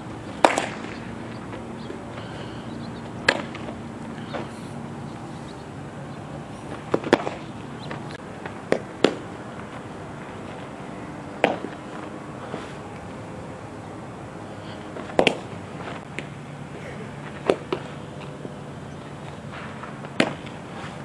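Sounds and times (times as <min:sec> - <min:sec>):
outdoor background: 0:00.0 - 0:21.0.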